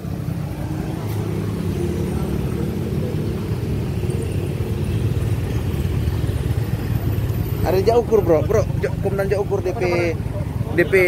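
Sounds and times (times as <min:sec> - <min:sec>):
minibus engine idling: 0:00.0 - 0:11.0.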